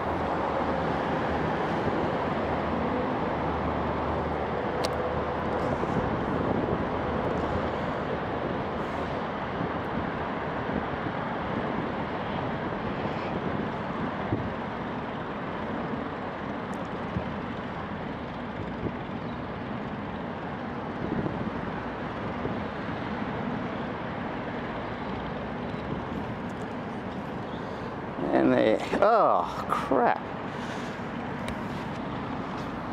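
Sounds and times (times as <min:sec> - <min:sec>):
road traffic hum: 0:00.0 - 0:32.9.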